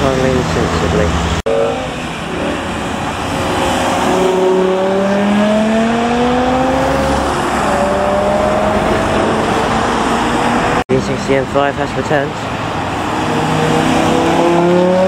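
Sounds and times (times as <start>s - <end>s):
car engine accelerating: 0.0s - 11.3s, 12.3s - 15.0s
road traffic rumble: 0.0s - 15.0s.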